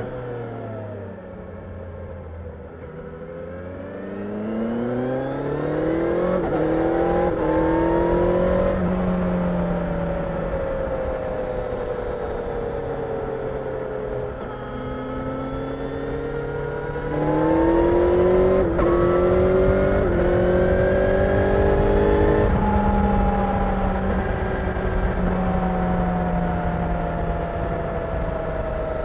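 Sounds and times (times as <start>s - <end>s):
motorcycle engine accelerating: 0.0s - 29.0s
wind and road noise: 0.0s - 29.0s.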